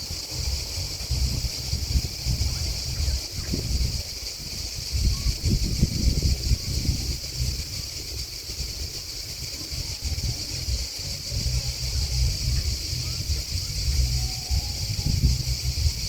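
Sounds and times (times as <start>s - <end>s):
crickets chirping: 0.0s - 16.0s
wind buffeting microphone: 0.0s - 16.0s.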